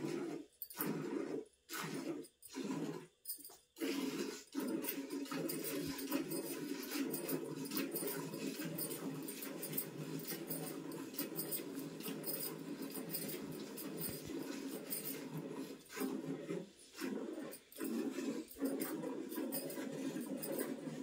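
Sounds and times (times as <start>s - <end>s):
milk squirting into steel pail: 3.8s - 21.0s.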